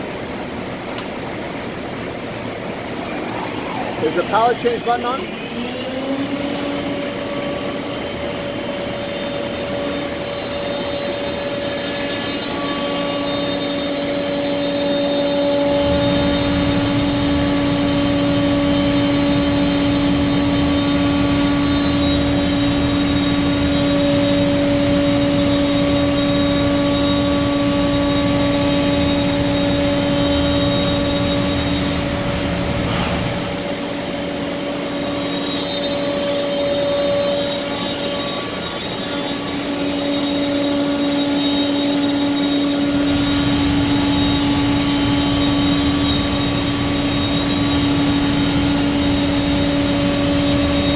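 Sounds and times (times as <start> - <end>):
router spindle whine: 2.4 - 50.9
rough machining noise: 4.0 - 50.9.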